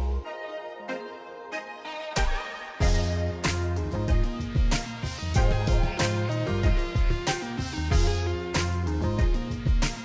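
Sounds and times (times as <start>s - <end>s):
bass: 0.0s - 0.2s, 2.2s - 10.0s
background music with beat: 0.0s - 10.0s.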